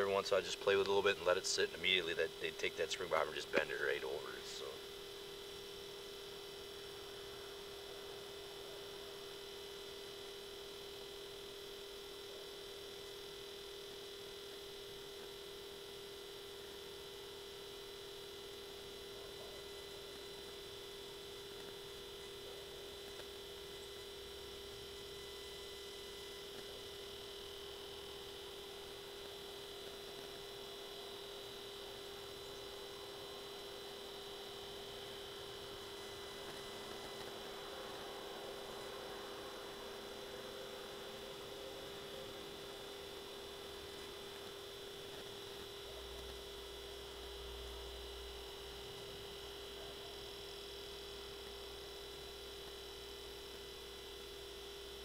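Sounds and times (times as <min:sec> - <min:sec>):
steady low hum with whine: 0:00.0 - 0:55.0.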